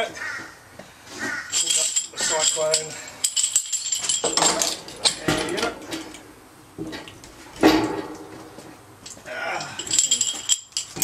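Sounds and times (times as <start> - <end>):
metal equipment clinking and rattling: 1.3 - 11.0.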